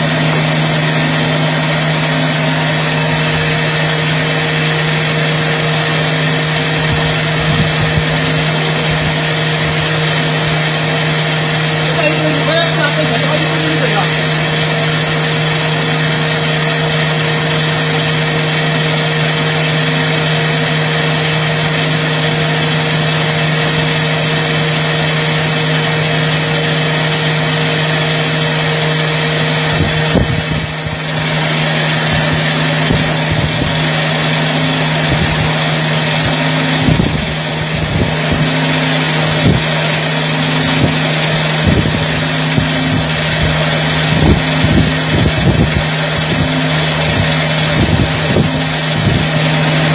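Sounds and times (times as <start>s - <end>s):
lathe machine hum: 0.0s - 49.9s.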